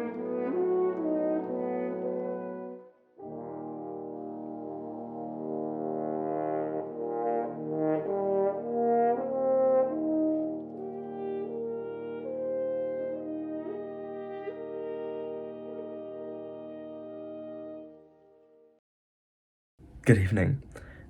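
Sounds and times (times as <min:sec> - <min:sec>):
slow brass ensemble music: 0:00.0 - 0:18.8.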